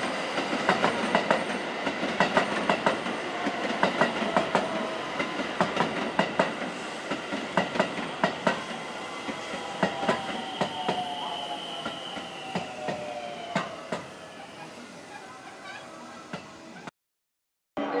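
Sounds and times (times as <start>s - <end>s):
train rolling along tracks: 0.0s - 16.9s.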